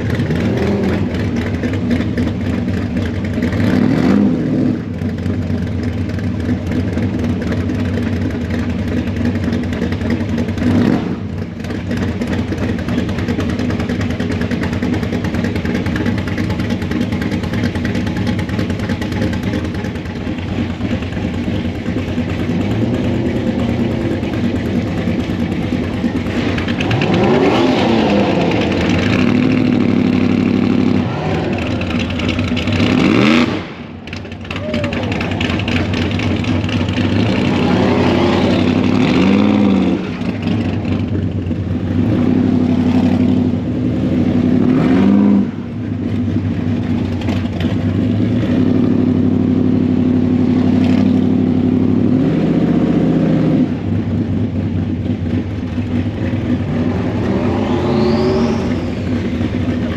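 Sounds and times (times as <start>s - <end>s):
engine revving: 0.0s - 7.6s, 8.9s - 59.9s
engines rumbling in slow traffic: 0.0s - 59.9s.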